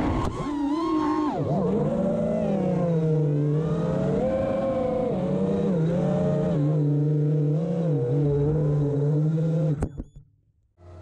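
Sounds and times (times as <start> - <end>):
quadcopter motors whining: 0.0 - 10.1.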